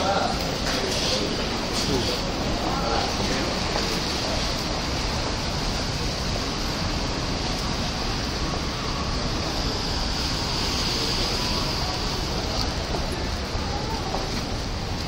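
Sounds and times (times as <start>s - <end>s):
traffic hiss on wet roads: 0.0s - 15.0s.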